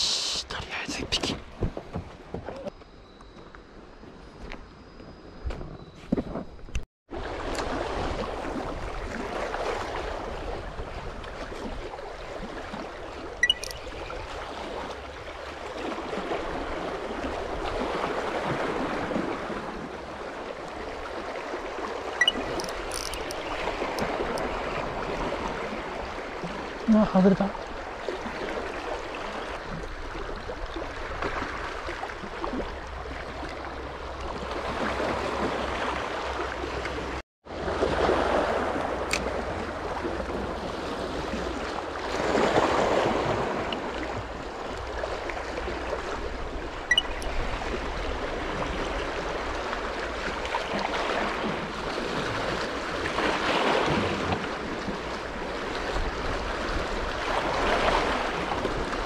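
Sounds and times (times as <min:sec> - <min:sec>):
sea waves washing on shore: 0:00.0 - 0:01.7, 0:07.1 - 0:59.0.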